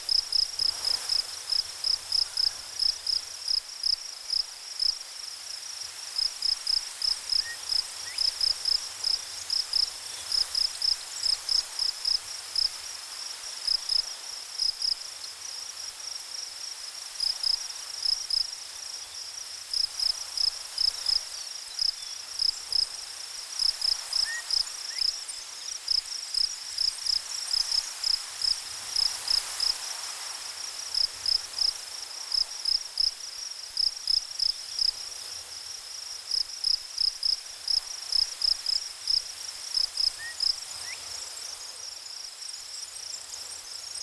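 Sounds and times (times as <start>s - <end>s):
faint steady hiss: 0.0s - 44.0s
insect chirping: 0.1s - 16.1s, 16.7s - 44.0s.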